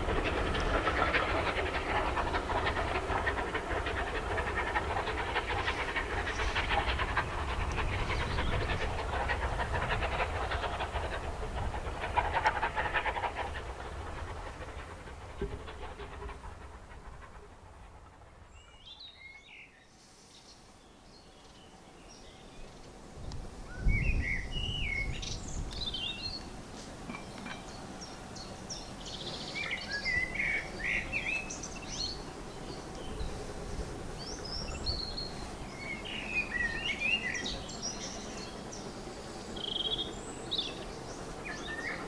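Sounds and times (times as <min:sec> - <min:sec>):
steam locomotive exhaust beats: 0:00.0 - 0:19.5, 0:23.4 - 0:42.0
rail noise: 0:00.0 - 0:20.8, 0:22.5 - 0:42.0.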